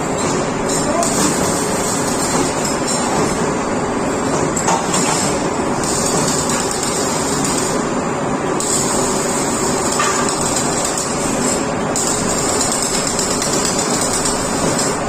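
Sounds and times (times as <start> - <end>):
industrial machinery noise: 0.0 - 15.0.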